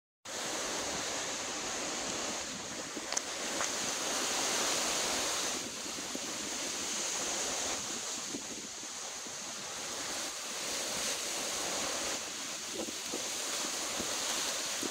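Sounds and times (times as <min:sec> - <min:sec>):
strong wind rushing through trees: 0:00.3 - 0:14.9.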